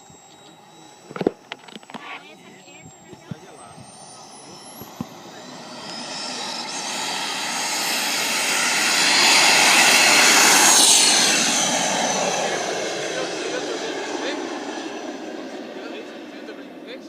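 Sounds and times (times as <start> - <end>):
rc jet plane whine: 0.0 - 17.0.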